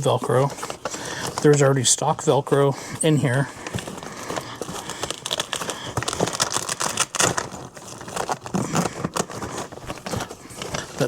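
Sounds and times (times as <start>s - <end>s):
bag crinkling and rustling: 0.0s - 11.0s.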